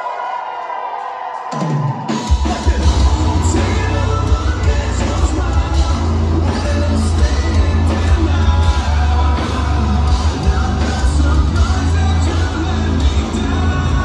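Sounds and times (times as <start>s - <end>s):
live heavy metal band: 0.0s - 14.0s
singer's vocals: 0.0s - 14.0s.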